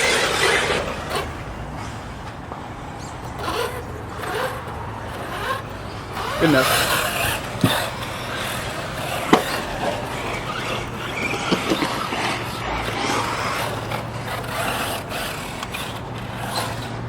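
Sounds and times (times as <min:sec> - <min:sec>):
electric toy buggy running on dirt: 0:00.0 - 0:17.0.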